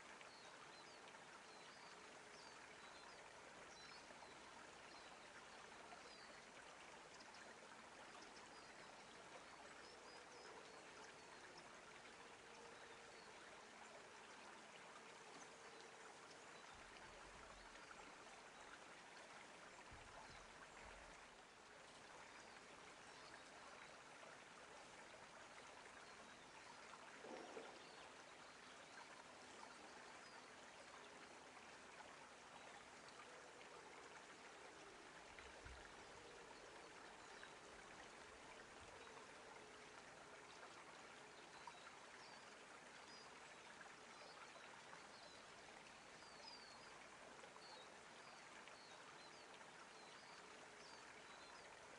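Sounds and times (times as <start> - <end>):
running water: 0.0 - 51.9.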